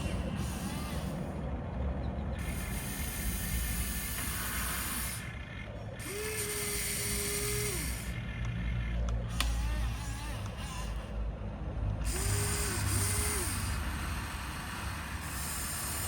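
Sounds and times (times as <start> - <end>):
toy electric motor and gearbox: 0.0 - 1.5, 2.3 - 11.4, 12.0 - 16.0.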